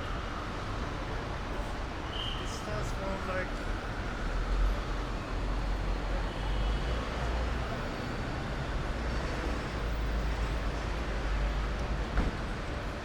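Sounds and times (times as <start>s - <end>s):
city noise: 0.0s - 13.0s.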